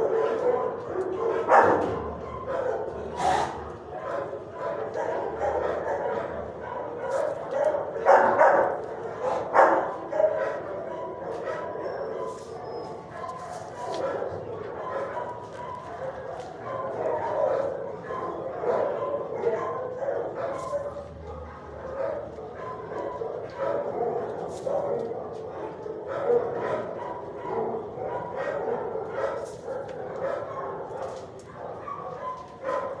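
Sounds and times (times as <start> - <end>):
dog barking: 0.0 - 33.0.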